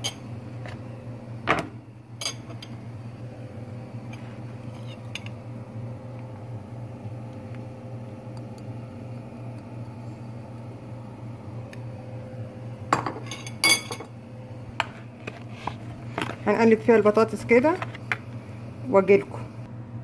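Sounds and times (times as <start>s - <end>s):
low appliance hum: 0.0s - 20.0s.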